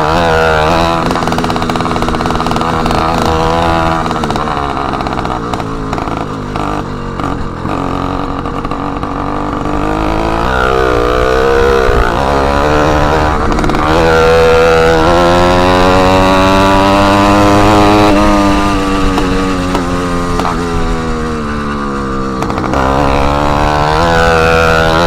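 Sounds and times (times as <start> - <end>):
small motorbike engine revving: 0.0 - 25.0.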